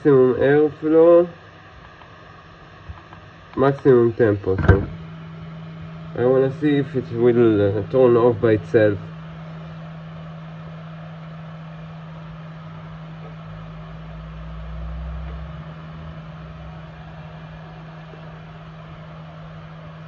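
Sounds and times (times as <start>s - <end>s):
hot air gun fan blowing: 0.0s - 20.0s.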